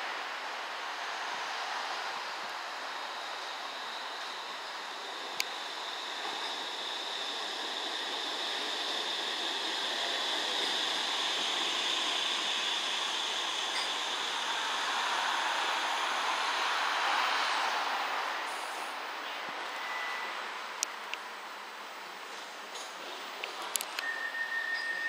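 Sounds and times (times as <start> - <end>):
tram wheels hissing on rail: 0.0 - 25.0.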